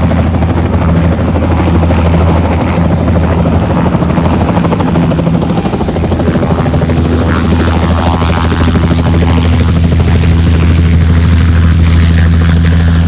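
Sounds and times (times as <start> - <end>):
helicopter engine drone: 0.0 - 13.0
helicopter rotor chop: 0.0 - 13.0.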